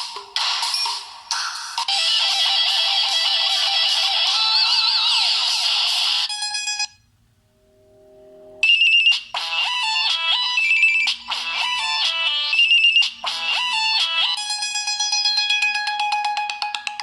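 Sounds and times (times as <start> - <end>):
electronic ringtone: 0.4 - 17.0
melodic ringtone: 0.6 - 7.0, 8.2 - 17.0.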